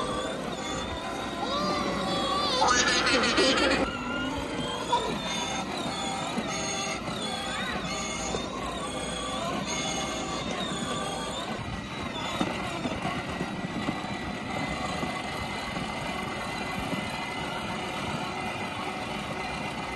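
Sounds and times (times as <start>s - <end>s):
plastic wheels rolling: 0.0s - 19.9s
toy car motor whine: 0.0s - 19.9s.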